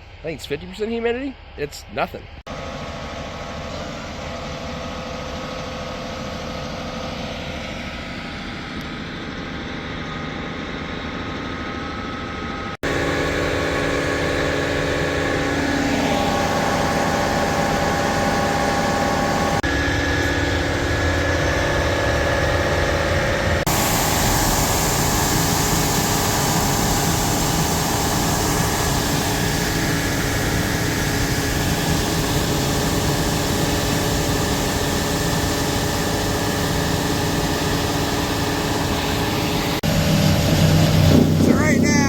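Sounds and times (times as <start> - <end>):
heavy machinery engine running: 0.0 - 42.0.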